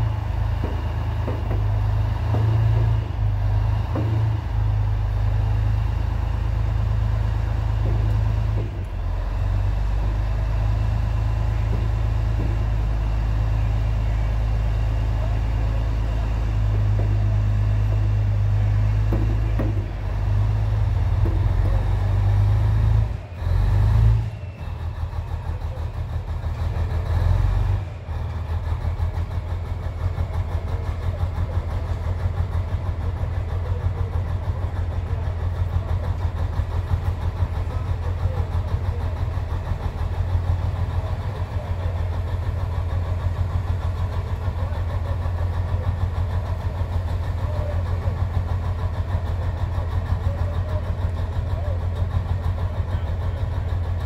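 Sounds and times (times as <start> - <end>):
heavy vehicle engine rumbling: 0.0 - 54.0.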